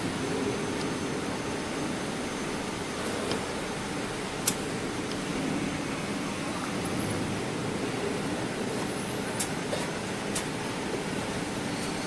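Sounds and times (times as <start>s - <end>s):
braiding machines running: 0.0s - 12.0s.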